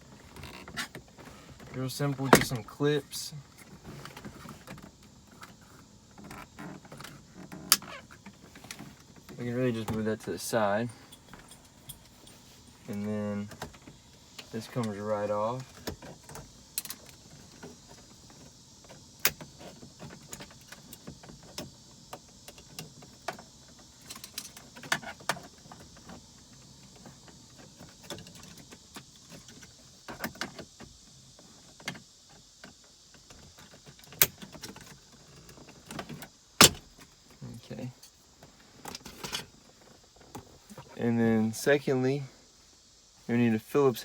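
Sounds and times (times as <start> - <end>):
faint steady hiss: 0.0 - 44.0.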